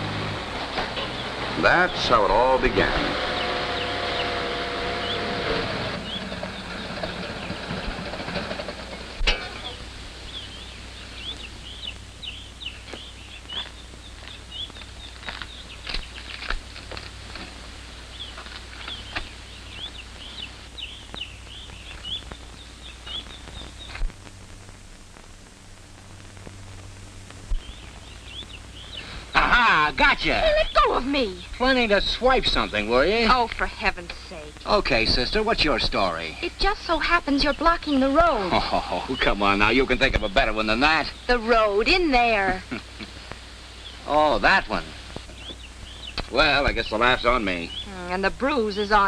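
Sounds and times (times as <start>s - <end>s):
small birds chirping: 0.0s - 24.7s, 26.2s - 49.0s
film soundtrack hum and hiss: 0.0s - 49.0s.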